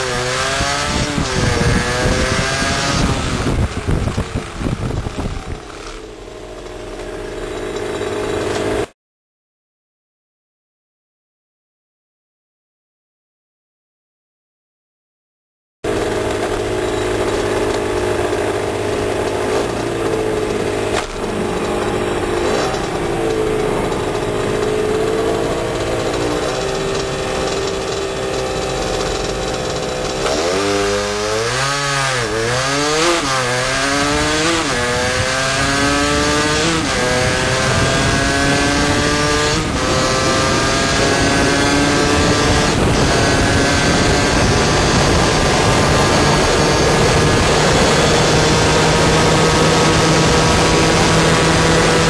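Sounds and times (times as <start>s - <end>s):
motorcycle engine revving: 0.0s - 8.9s, 15.8s - 52.0s.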